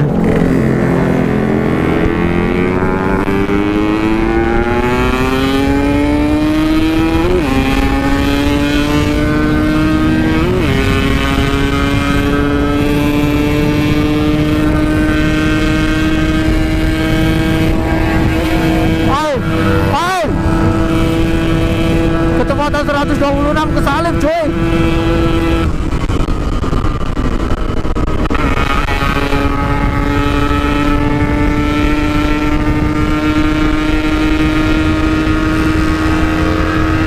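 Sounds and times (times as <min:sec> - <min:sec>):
two-stroke engine at hard throttle: 0:00.0 - 0:37.0
wind rushing past: 0:00.0 - 0:37.0.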